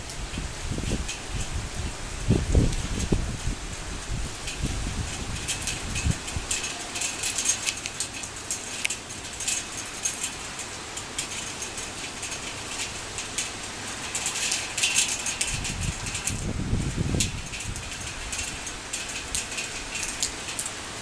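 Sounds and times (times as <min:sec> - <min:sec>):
torrential rain: 0:00.0 - 0:21.0.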